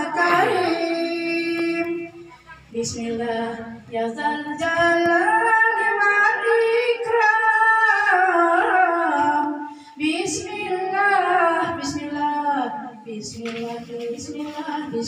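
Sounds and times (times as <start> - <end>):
woman singing devotional chant: 0.0 - 15.0.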